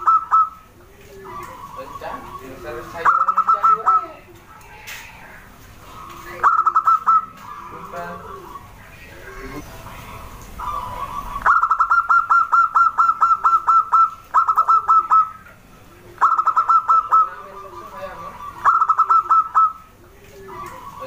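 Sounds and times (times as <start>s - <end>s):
dove cooing in bursts: 0.0s - 21.0s.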